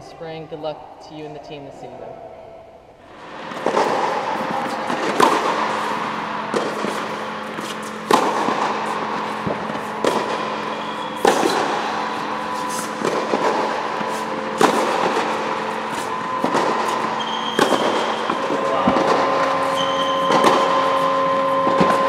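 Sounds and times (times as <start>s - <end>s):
steady hum: 0.0s - 22.0s
tennis racket striking ball: 3.1s - 22.0s.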